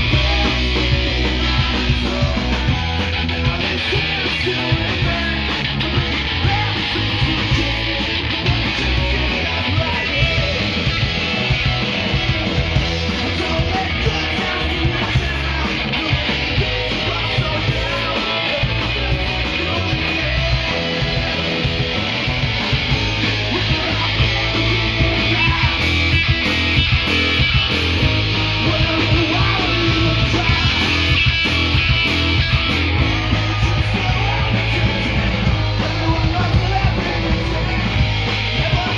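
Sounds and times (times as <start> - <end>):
bass guitar: 0.0 - 38.9
drums: 0.0 - 38.9
electric guitars: 0.0 - 38.9.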